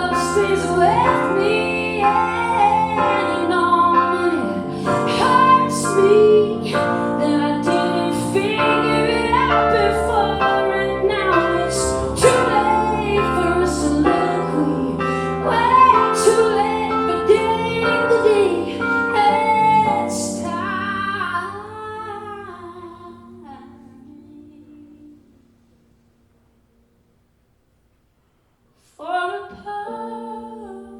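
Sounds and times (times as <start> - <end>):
woman singing: 0.0 - 25.5, 28.9 - 30.9.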